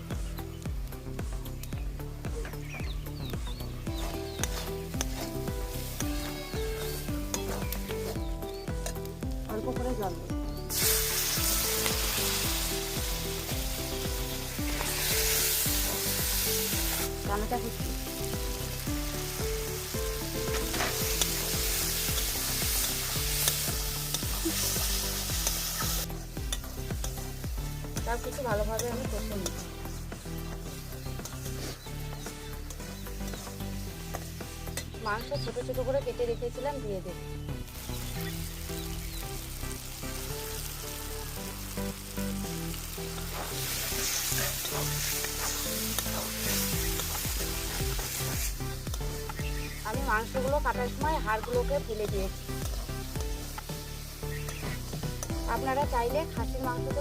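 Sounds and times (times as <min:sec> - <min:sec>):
music with steady beat: 0:00.0 - 0:35.9, 0:37.5 - 0:57.0
food sizzling in a pan: 0:00.0 - 0:36.4, 0:37.1 - 0:57.0.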